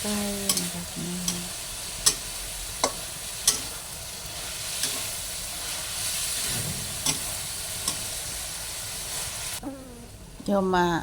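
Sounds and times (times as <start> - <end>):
vegetables sizzling in a pan: 0.0 - 9.6.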